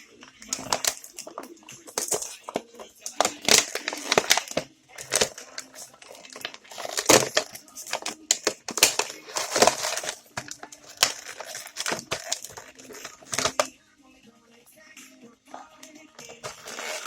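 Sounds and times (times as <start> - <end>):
plastic packaging crinkling: 0.0 - 13.7, 16.2 - 17.0.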